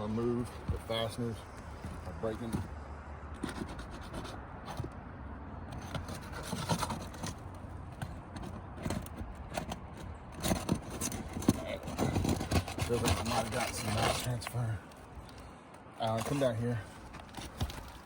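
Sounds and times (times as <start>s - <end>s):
tool scraping against shingle: 0.0s - 5.0s, 5.6s - 18.0s.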